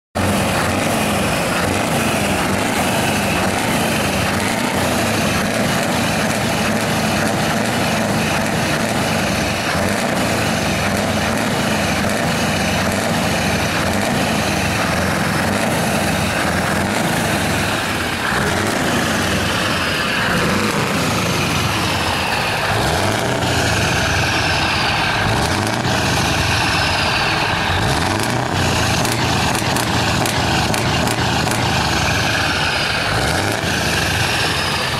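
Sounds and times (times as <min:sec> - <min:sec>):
loud truck engine: 0:00.1 - 0:34.9.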